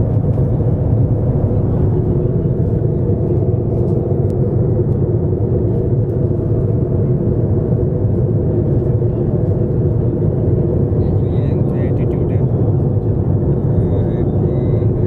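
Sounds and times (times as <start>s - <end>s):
jet engines and airflow rumble: 0.0s - 15.0s.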